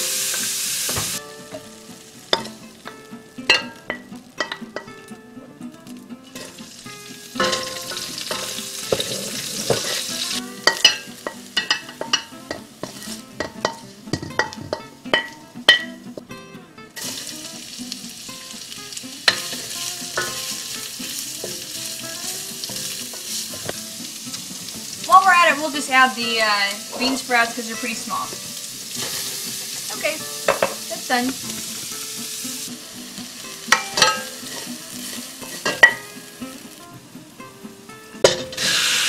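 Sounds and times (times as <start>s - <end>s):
vegetables sizzling in hot oil: 0.0s - 16.2s, 17.0s - 39.0s.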